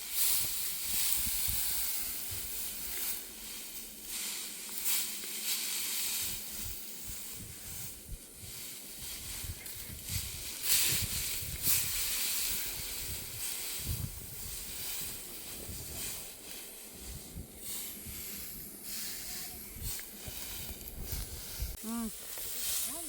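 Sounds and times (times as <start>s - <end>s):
rustling hiss: 0.0s - 23.0s.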